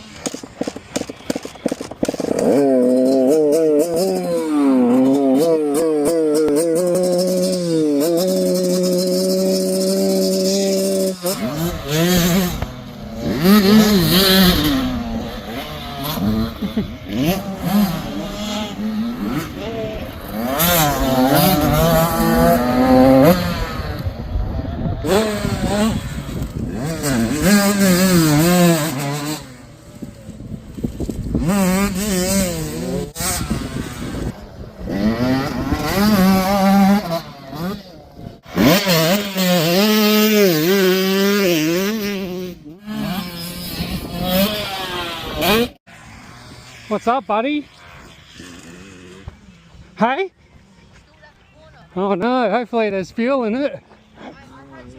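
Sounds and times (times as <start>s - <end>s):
dirt bike engine revving: 0.0s - 51.1s.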